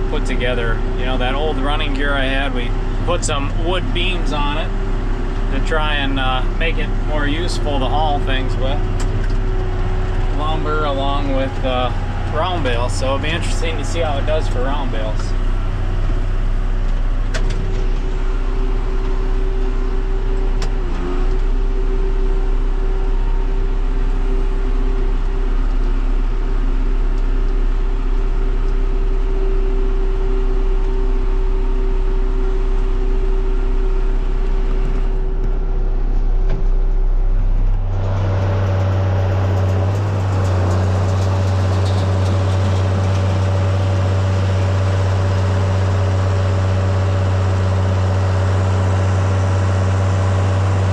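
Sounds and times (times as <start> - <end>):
deeper engine note: 0.0 - 50.9
tractor diesel engine running: 0.0 - 50.9.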